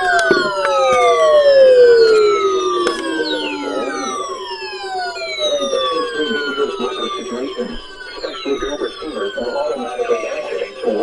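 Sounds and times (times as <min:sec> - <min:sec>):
sirens winding down: 0:00.0 - 0:11.0
steady pulsing drone: 0:00.0 - 0:11.0.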